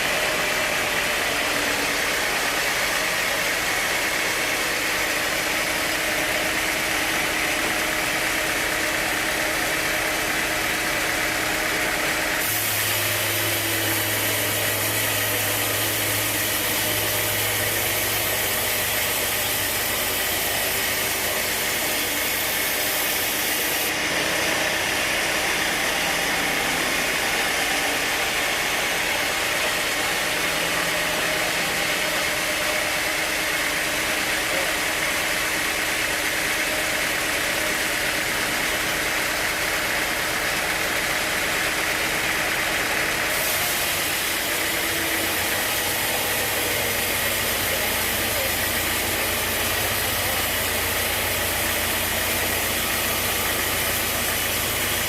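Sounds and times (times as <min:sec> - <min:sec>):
sawmill machinery hum and hiss: 0:00.0 - 0:55.0.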